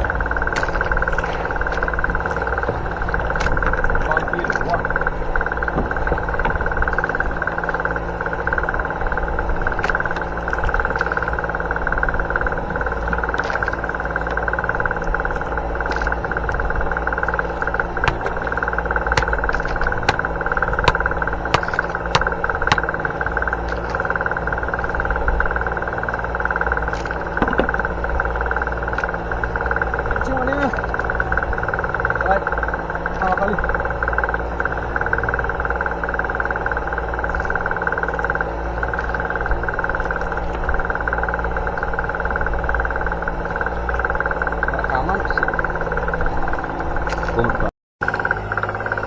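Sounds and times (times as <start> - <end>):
boat engine humming: 0.0 - 49.0.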